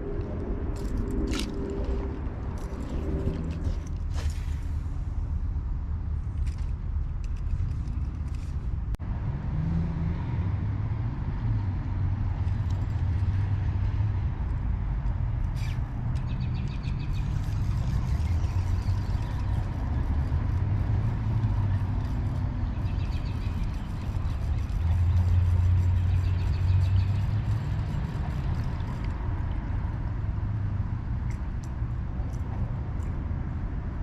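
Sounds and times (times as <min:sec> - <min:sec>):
low rumble of road traffic: 0:00.0 - 0:34.0.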